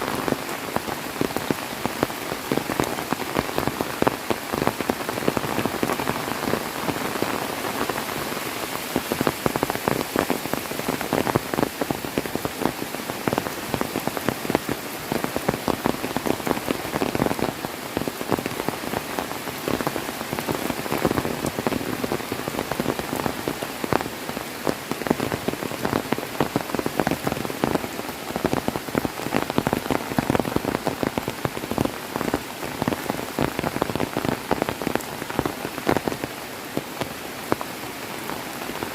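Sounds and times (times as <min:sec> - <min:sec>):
heavy rain on hard surface: 0:00.0 - 0:38.9.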